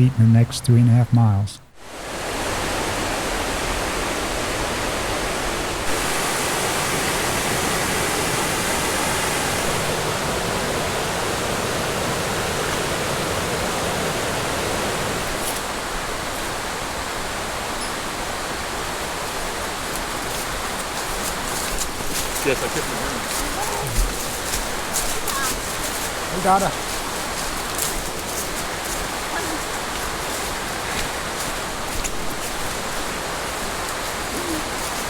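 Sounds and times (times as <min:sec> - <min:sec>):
river water rushing: 0:01.8 - 0:35.0.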